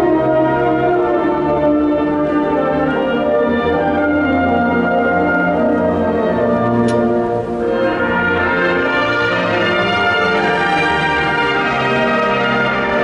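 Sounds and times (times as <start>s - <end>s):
massed wind band playing: 0.0s - 13.0s.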